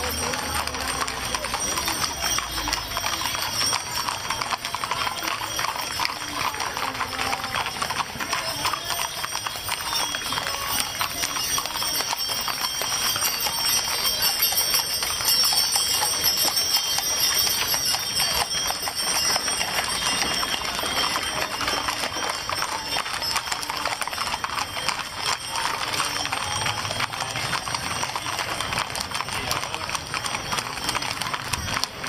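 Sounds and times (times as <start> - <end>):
horses' hooves clip-clopping: 0.0 - 32.0
voices: 0.0 - 32.0.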